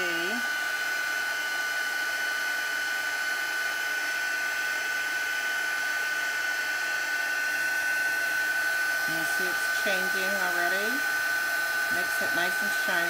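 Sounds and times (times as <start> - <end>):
heat tool blowing air: 0.0 - 13.0.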